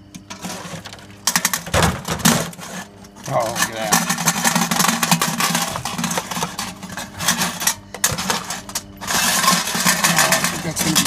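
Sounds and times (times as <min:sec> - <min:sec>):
metallic clicking and clattering: 0:00.2 - 0:11.0.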